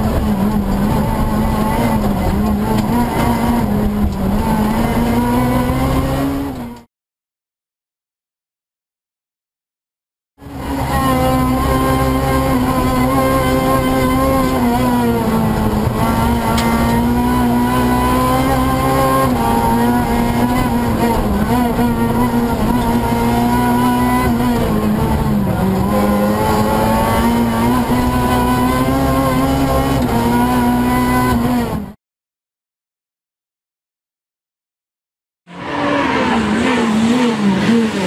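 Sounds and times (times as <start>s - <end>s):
rally car engine at high revs: 0.0s - 6.9s, 10.4s - 32.0s, 35.5s - 38.0s.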